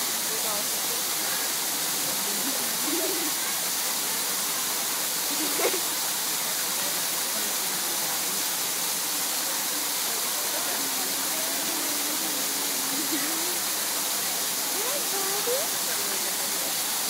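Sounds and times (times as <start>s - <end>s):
faint voices: 0.0s - 17.0s
waterfall rushing: 0.0s - 17.0s.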